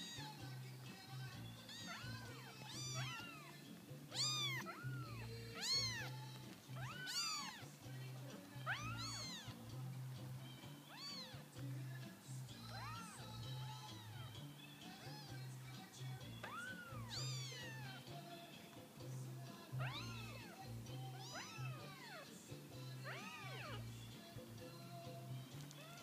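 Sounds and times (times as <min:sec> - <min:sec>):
kittens mewing: 0:00.0 - 0:18.7, 0:19.5 - 0:26.0.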